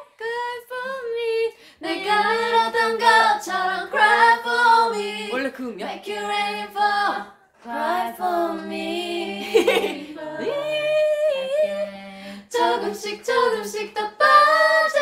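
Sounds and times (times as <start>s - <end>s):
women singing a cappella: 0.0s - 15.0s.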